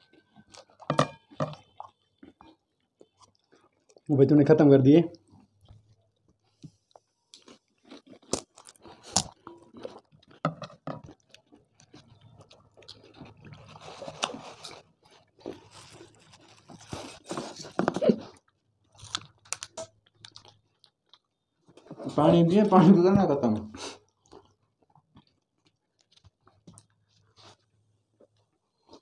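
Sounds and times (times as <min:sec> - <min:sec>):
chewing and biting: 0:00.0 - 0:04.1, 0:05.2 - 0:22.0, 0:24.0 - 0:29.0.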